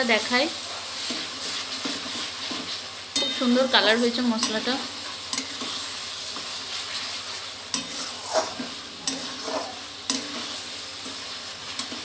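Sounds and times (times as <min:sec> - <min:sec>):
paste sizzling in hot oil: 0:00.0 - 0:12.0
spoon scraping a pan: 0:00.2 - 0:12.0.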